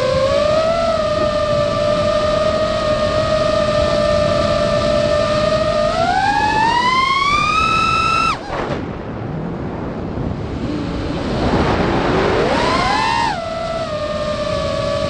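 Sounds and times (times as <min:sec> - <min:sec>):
drone motors whining: 0:00.0 - 0:08.7, 0:10.5 - 0:15.0.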